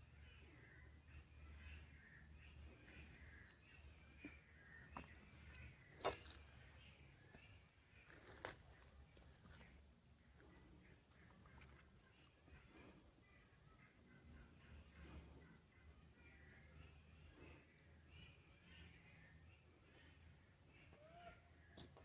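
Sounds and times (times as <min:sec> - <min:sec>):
night insects trilling: 0:00.0 - 0:22.0.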